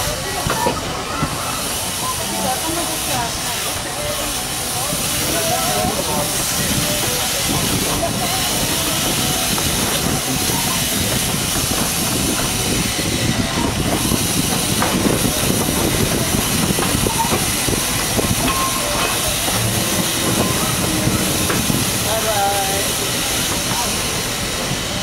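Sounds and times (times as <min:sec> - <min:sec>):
steam train hiss: 0:00.0 - 0:25.0.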